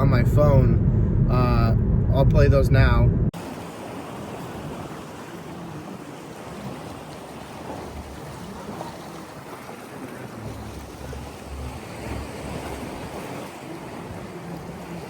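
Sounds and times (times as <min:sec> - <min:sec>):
ocean surf washing: 0:00.0 - 0:15.0
wind rumbling on microphone: 0:00.0 - 0:15.0.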